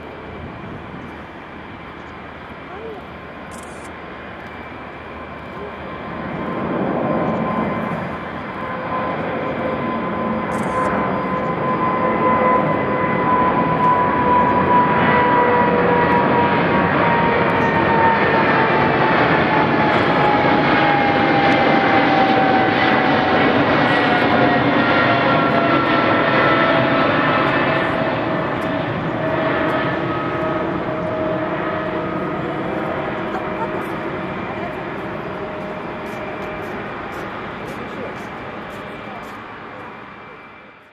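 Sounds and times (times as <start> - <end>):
jet engine whine: 0.0 - 40.9
jet roar overhead: 0.0 - 40.9.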